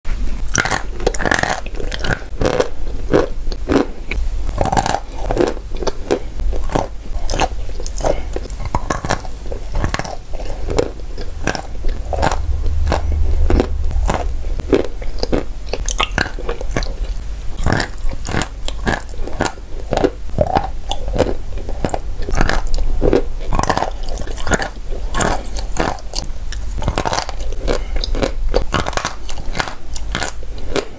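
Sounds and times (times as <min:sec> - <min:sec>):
wet chewing and crunching: 0:00.2 - 0:30.9.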